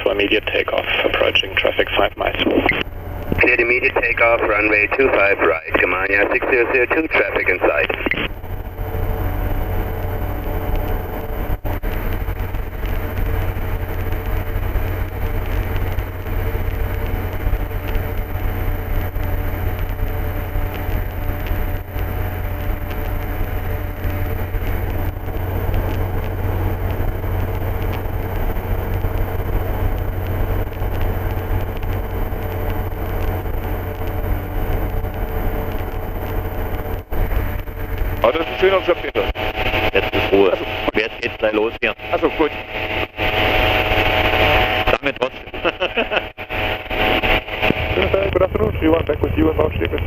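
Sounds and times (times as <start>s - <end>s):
light aircraft engine drone: 0.0s - 50.0s.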